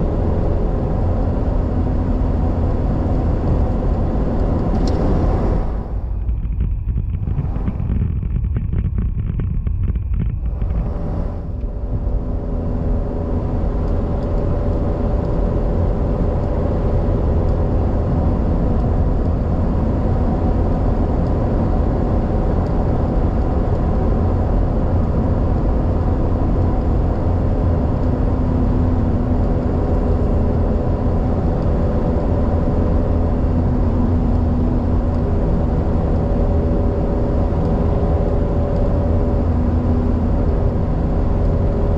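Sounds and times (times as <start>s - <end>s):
tyre and engine rumble: 0.0s - 41.9s.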